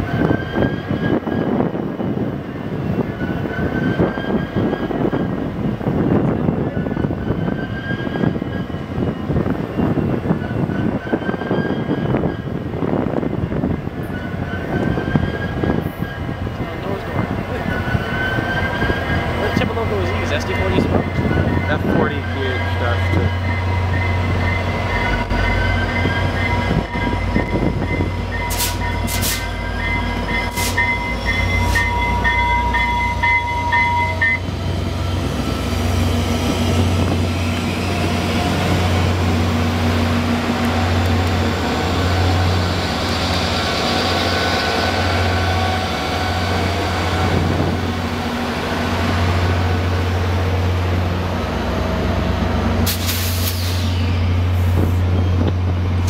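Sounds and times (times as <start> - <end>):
locomotive engine rumble: 0.0 - 56.0
train wheel noise: 0.0 - 56.0.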